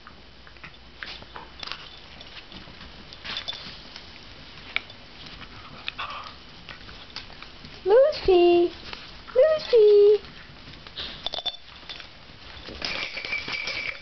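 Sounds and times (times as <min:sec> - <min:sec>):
dogs scuffling in bedding: 0:01.0 - 0:14.0.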